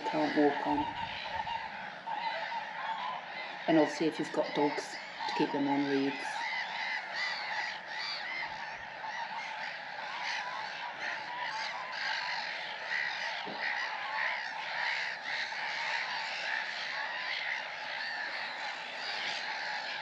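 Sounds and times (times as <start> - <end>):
waterbirds calling: 0.0 - 20.0.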